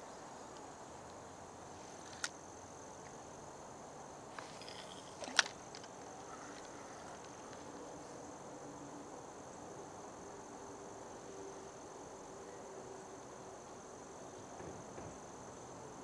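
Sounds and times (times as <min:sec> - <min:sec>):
high-pitched drone of insects: 0:00.0 - 0:16.0.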